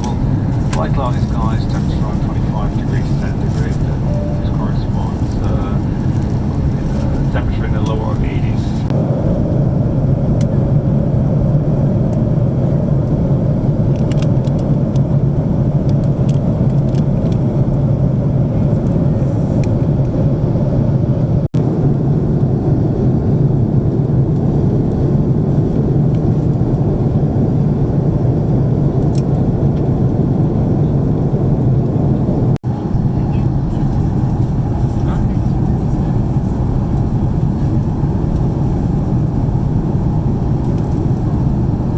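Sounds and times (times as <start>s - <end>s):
airplane cabin engine hum: 0.0s - 41.9s.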